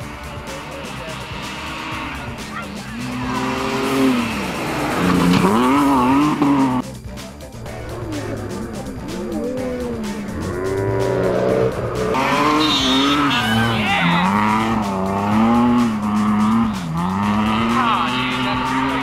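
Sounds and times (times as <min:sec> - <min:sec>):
rally car engine revving hard: 0:00.0 - 0:06.8, 0:08.2 - 0:19.0.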